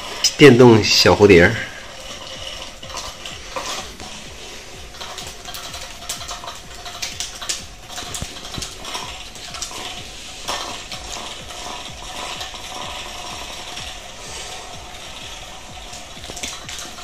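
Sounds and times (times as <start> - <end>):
ratcheting clicks and rattles: 0.0 - 17.0
small toy motor whirring: 0.0 - 17.0.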